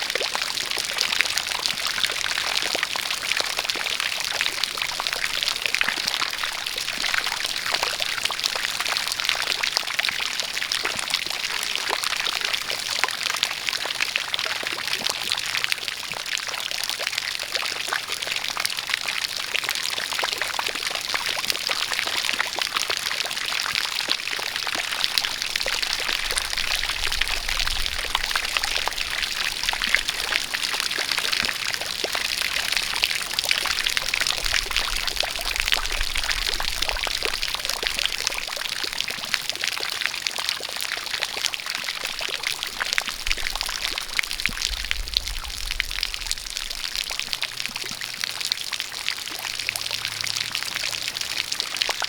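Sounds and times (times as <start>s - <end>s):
water pouring and splashing: 0.0s - 52.0s.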